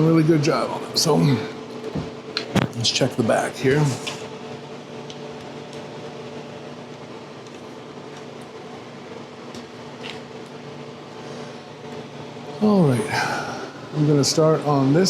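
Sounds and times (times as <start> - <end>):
fan-like machine hum: 0.0 - 15.0.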